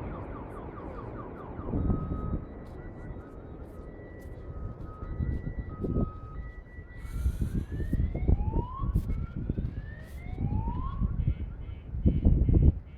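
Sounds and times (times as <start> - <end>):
siren wailing: 0.0 - 12.9.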